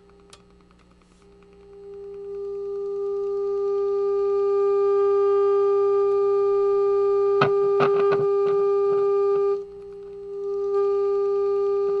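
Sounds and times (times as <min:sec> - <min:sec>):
steady test tone from radio speaker: 0:01.8 - 0:12.0.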